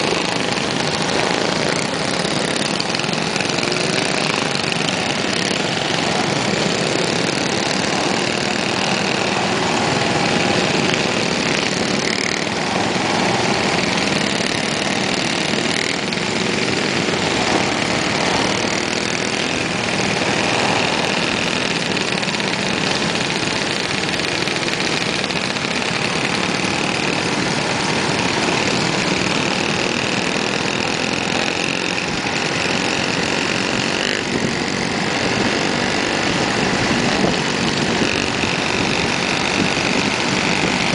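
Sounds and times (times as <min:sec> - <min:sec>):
minibike engines running: 0:00.0 - 0:40.9.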